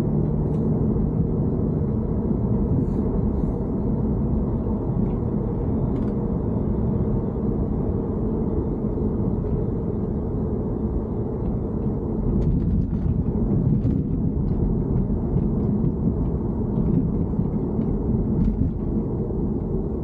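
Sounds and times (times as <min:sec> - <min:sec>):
car rumbling while moving: 0:00.0 - 0:20.0.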